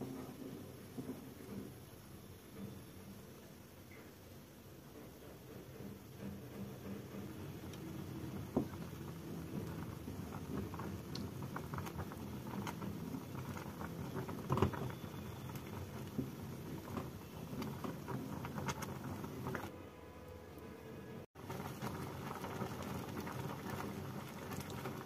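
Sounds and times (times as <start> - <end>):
thick milk boiling: 0.0 - 19.7, 21.3 - 25.0.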